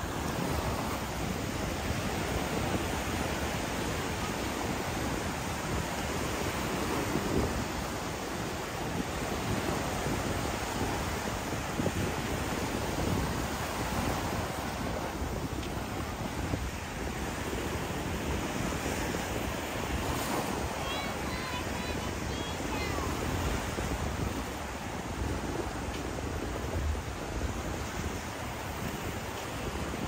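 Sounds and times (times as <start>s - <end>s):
ocean surf washing onto beach: 0.0s - 30.0s
wind buffeting microphone: 0.0s - 30.0s.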